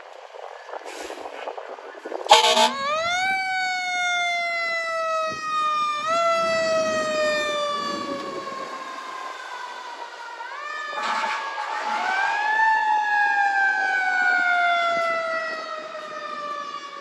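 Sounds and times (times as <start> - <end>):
fire alarm siren wailing: 2.1 - 17.0.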